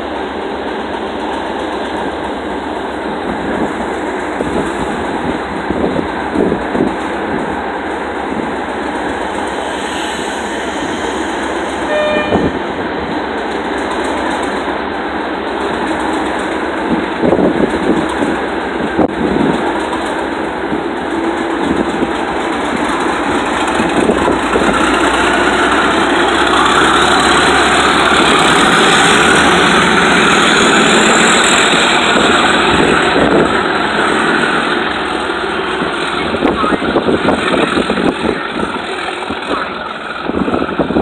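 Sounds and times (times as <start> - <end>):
diesel locomotive engine: 0.0 - 41.0
rail noise: 0.0 - 41.0.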